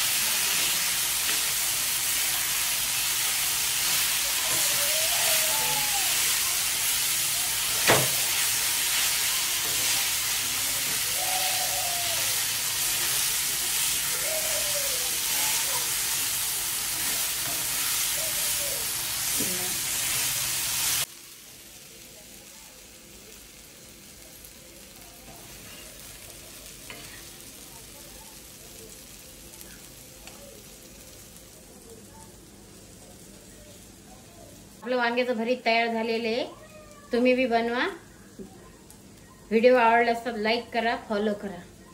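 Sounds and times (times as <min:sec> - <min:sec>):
food sizzling on a hot pan: 0:00.0 - 0:41.9.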